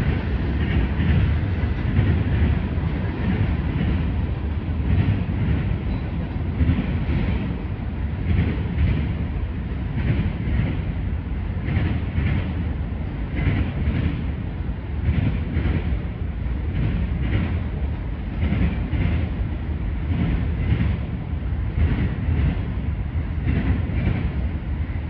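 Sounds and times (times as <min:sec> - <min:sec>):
clickety-clack of wheels on rail joints: 0:00.0 - 0:25.0
train wheels rumbling on rail: 0:00.0 - 0:25.0.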